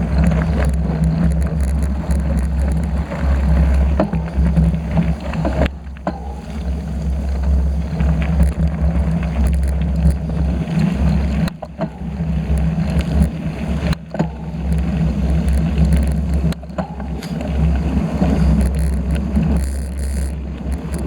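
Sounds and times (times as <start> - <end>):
faint bicycle rattles: 0.0 - 21.0.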